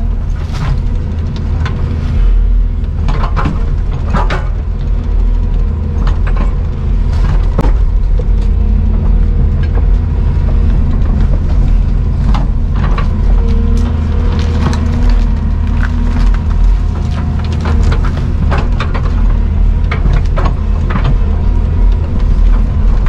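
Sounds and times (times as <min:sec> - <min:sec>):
heavy machine engine running: 0:00.0 - 0:23.0
wood splintering cracks: 0:02.9 - 0:23.0.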